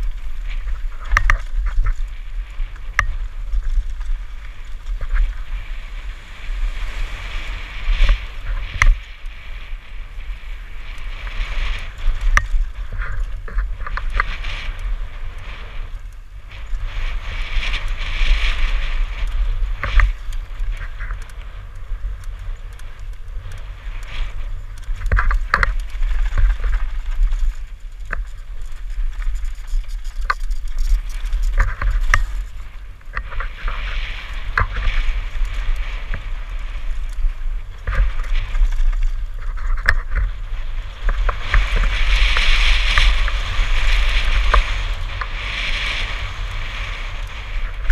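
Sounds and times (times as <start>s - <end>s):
bike clicking and rattling: 0.0s - 47.9s
wind rumble on microphone: 0.0s - 47.9s.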